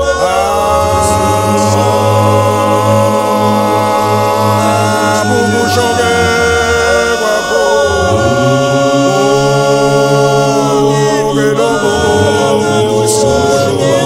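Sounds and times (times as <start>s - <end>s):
choir singing without instruments: 0.0s - 14.0s.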